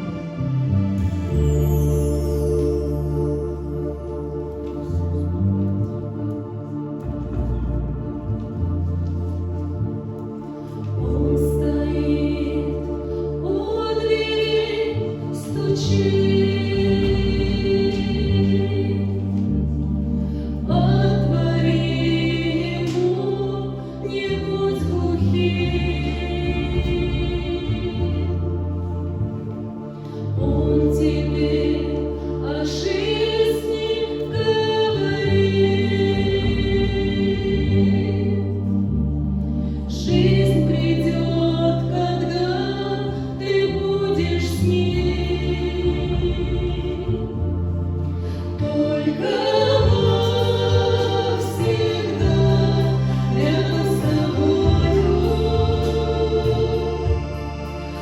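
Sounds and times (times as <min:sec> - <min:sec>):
choir singing: 0:00.0 - 0:58.0
low held accompaniment: 0:00.0 - 0:58.0.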